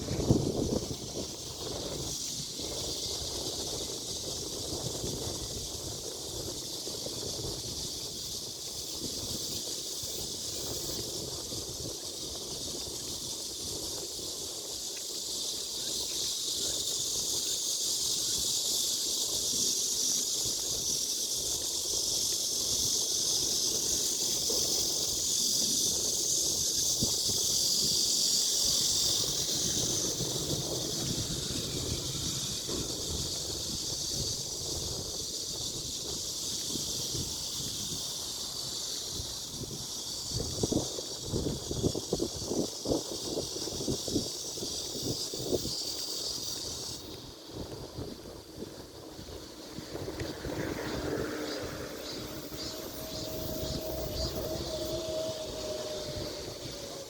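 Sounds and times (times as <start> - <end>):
high-pitched hiss: 0.0 - 57.0
wind rumble on microphone: 0.0 - 57.0.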